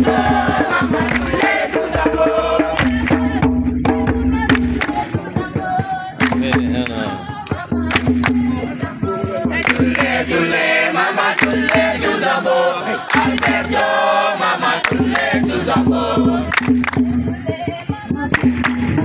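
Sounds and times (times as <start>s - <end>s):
sharp percussion strikes: 0.0s - 12.2s, 13.1s - 14.1s, 14.8s - 19.0s
group of voices singing: 0.0s - 19.0s.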